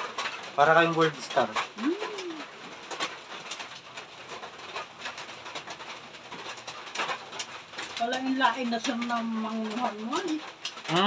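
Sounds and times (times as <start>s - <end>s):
rain on a roof: 0.0s - 11.0s.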